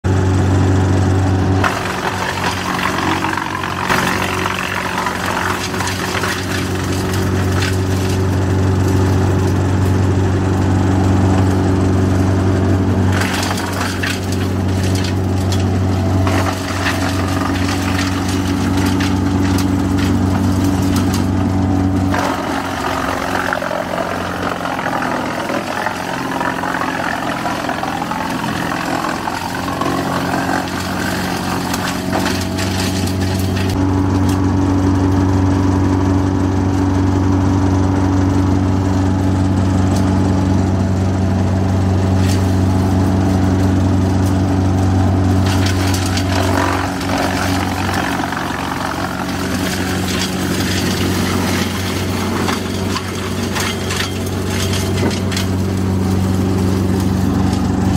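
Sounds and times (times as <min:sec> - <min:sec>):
wood chipper diesel engine: 0:00.0 - 0:57.9.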